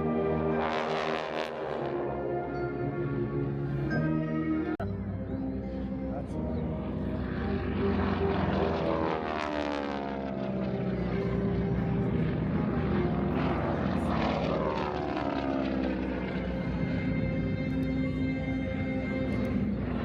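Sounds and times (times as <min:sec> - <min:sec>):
propeller aircraft flying low past: 0:00.0 - 0:20.0.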